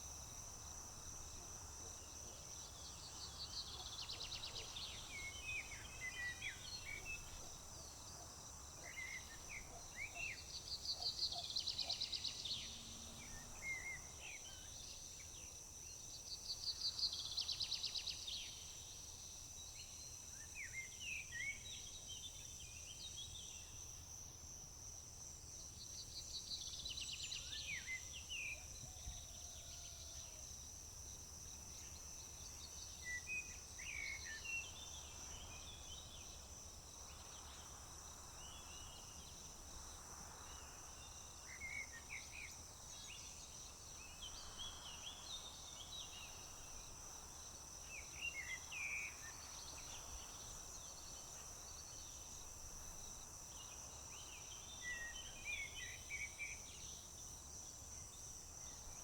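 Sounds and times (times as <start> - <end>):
crickets droning: 0.0 - 59.0.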